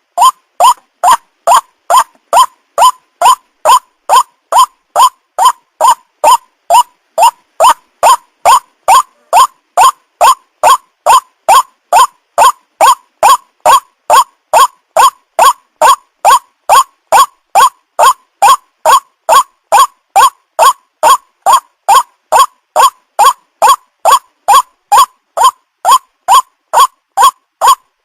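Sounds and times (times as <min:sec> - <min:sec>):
waterhen calling: 0:00.0 - 0:27.8.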